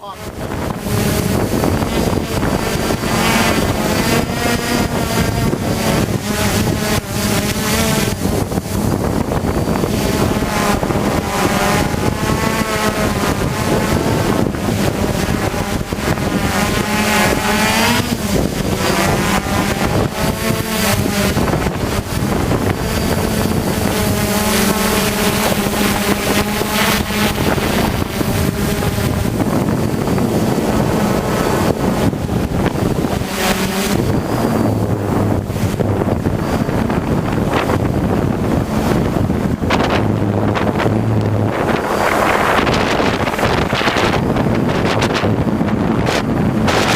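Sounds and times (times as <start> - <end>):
drone propellers buzzing: 0.0 - 46.9
wind rushing over microphone: 0.0 - 46.9.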